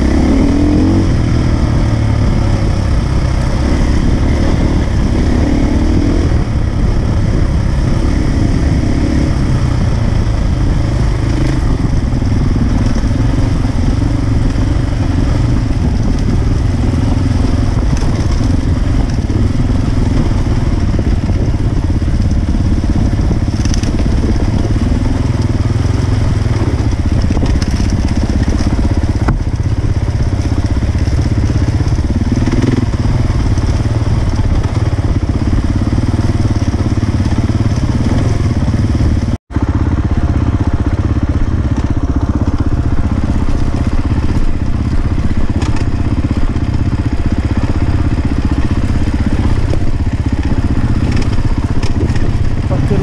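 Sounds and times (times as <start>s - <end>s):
motorcycle engine revving: 0.0s - 53.0s
wind rumble on microphone: 0.0s - 53.0s.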